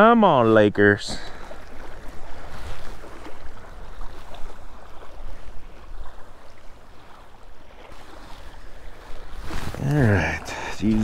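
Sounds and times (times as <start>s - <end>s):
small waves lapping on gravel: 1.1s - 11.0s.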